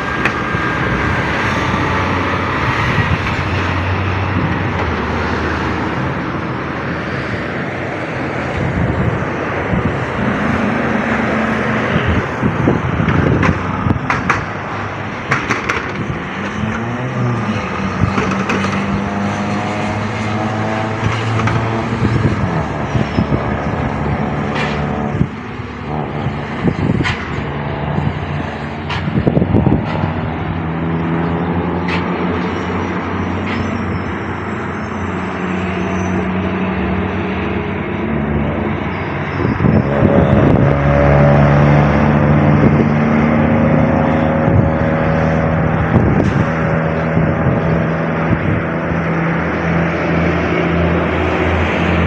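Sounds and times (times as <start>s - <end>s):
truck diesel engines running: 0.0s - 52.0s.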